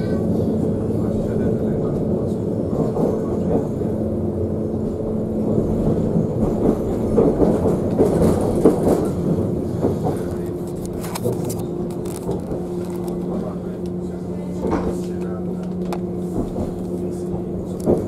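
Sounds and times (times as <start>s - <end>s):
train carriage rattling: 0.0s - 18.0s
train wheel-on-rail running noise: 0.0s - 18.0s.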